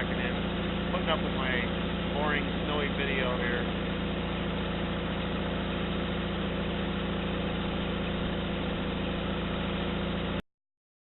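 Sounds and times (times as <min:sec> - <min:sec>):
vehicle engine idling: 0:00.0 - 0:10.4.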